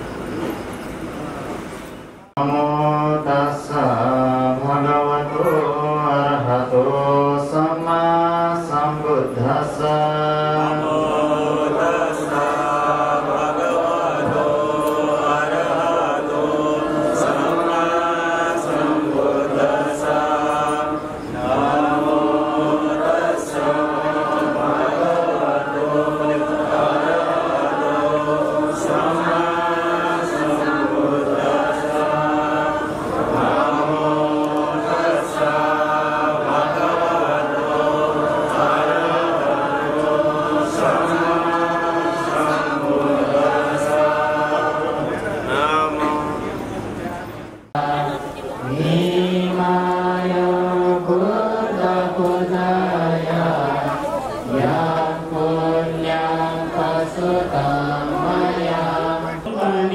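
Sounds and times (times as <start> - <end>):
melodic chanting: 2.2 - 59.9.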